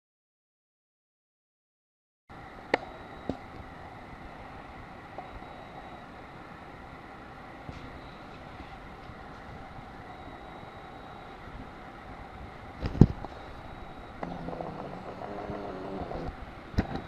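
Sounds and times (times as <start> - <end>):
background hiss: 2.3 - 17.0
low hum with overtones: 2.3 - 17.0.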